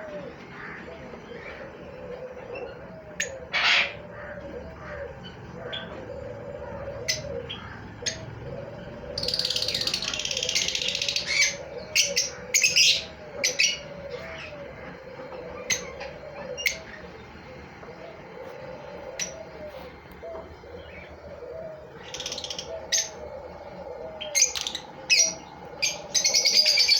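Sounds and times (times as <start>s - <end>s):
low repeated cooing: 0.0s - 26.9s
lovebirds chirping: 4.8s - 26.9s.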